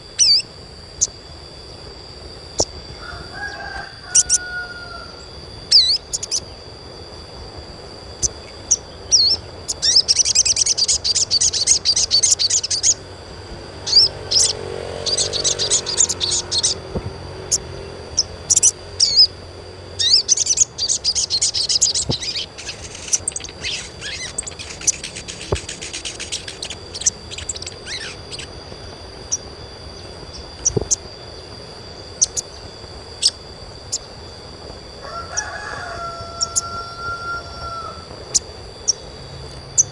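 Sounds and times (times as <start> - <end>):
bird twittering trills: 0.0 - 39.9
bird high chirps: 0.1 - 1.2, 2.5 - 6.7, 8.1 - 34.2, 35.0 - 39.9.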